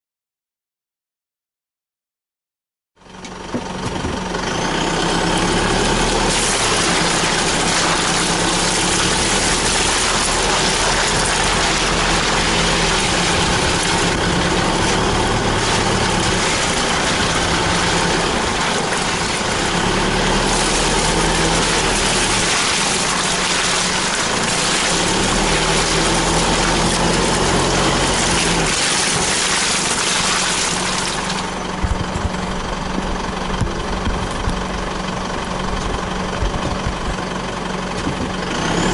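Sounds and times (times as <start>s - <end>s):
vehicle engine driving slowly: 3.0s - 38.9s.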